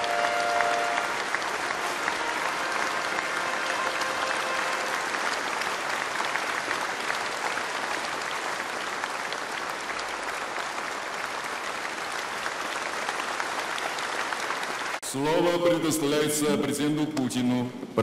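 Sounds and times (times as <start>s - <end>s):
large audience applauding: 0.0s - 16.8s.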